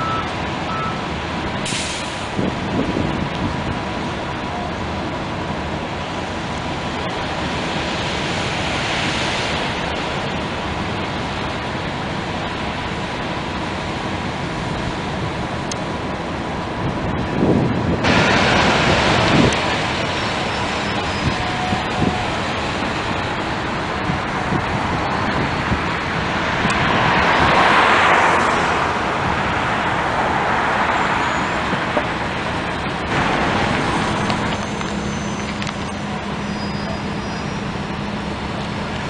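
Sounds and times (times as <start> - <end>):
bus passing: 0.0 - 39.0
street traffic: 0.0 - 39.0.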